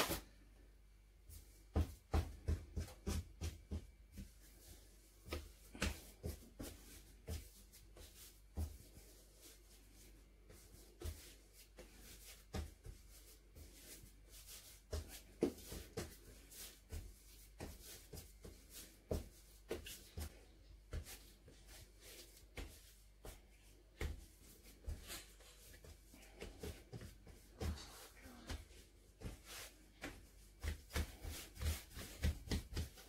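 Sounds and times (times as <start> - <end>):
hands kneading dough: 0.0 - 33.0.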